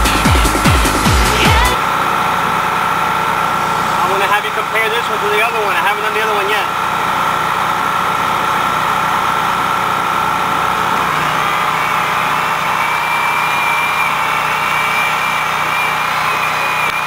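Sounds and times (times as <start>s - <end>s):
machine humming and whining: 0.0s - 17.0s.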